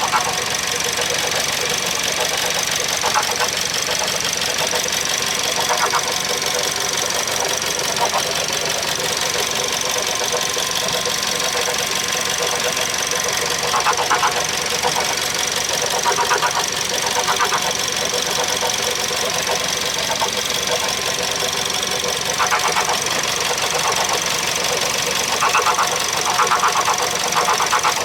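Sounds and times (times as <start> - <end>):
car engine whining: 0.0 - 28.0
engine rattling: 0.0 - 28.0.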